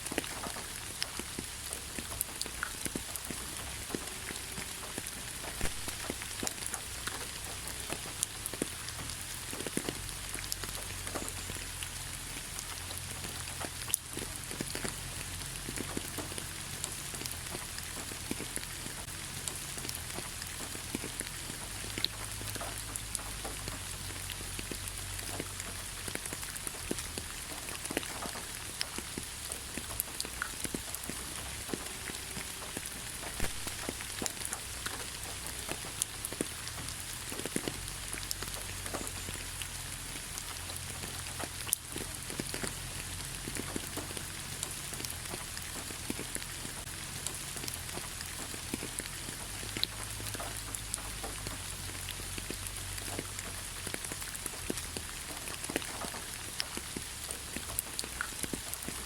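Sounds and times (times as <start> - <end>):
raindrops striking close by: 0.0 - 59.0
steady rain hiss: 0.0 - 59.0.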